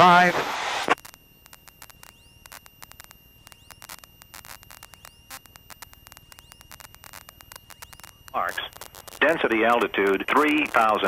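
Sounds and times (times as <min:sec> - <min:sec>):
radio static crackling: 0:00.0 - 0:11.0.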